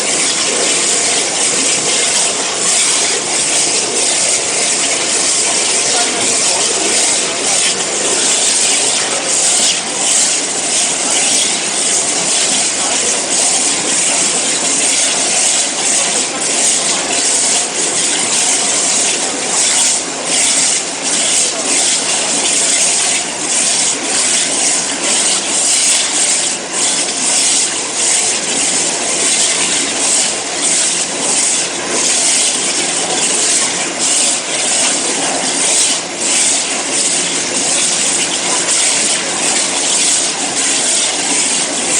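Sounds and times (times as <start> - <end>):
waterjet cutter hissing: 0.0 - 41.9.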